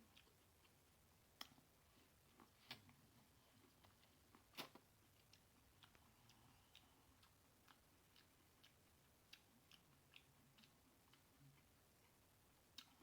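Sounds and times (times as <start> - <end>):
lip smacking and chewing: 0.0 - 13.0.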